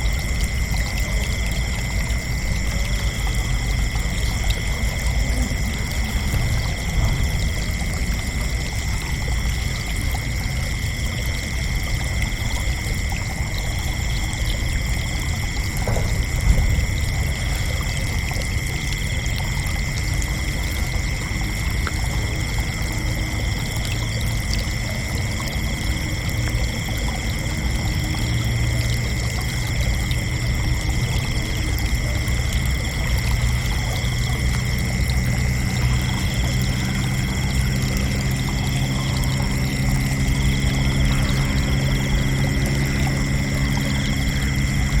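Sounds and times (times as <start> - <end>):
crickets chirping: 0.0 - 45.0
low rumbling background noise: 0.0 - 45.0.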